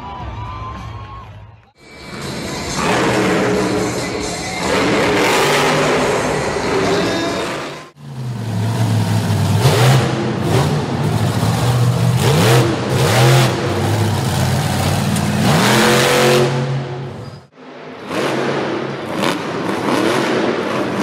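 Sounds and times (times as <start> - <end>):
truck engine revving: 1.8 - 21.0.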